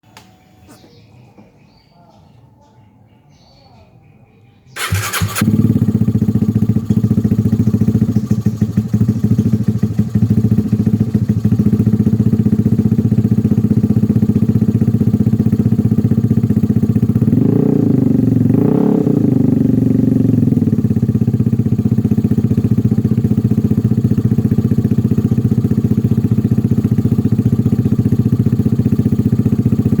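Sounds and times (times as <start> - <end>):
scooter engine idling: 4.8 - 30.0
scooter engine revving: 4.8 - 30.0.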